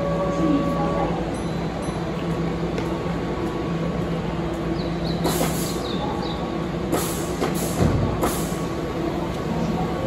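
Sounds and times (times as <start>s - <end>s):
train equipment humming: 0.0s - 10.0s.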